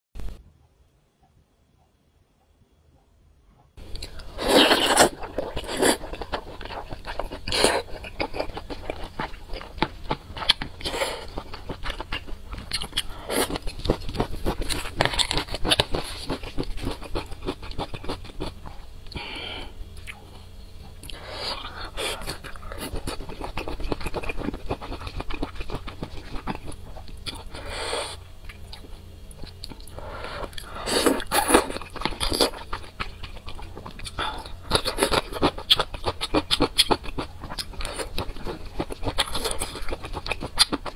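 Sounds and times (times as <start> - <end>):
wet chewing and crunching: 3.8 - 19.3, 20.0 - 27.6, 28.4 - 40.9.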